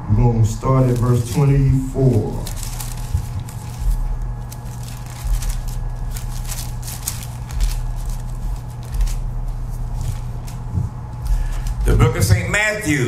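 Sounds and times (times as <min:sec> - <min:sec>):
soft low thumps: 0:00.0 - 0:12.6
steady electrical hum: 0:00.0 - 0:13.0
pages turning and rustling: 0:00.8 - 0:11.8.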